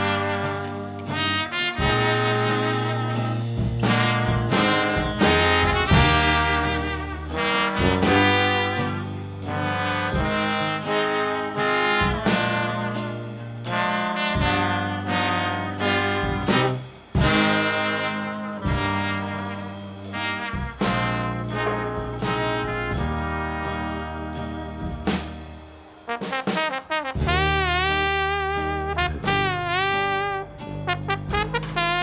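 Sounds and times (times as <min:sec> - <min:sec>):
upbeat jazzy brass music: 0:00.0 - 0:32.0.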